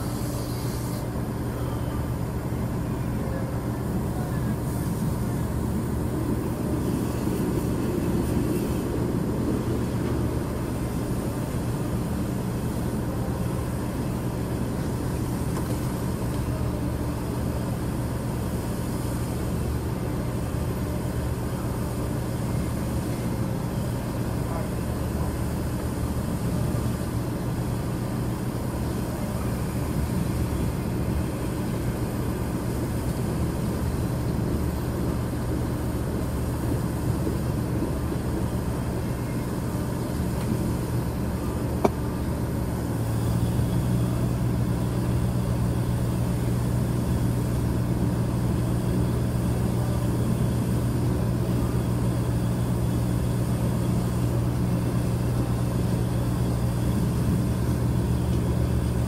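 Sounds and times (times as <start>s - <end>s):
freight train rolling: 0.0s - 59.0s
low engine drone: 0.0s - 59.0s.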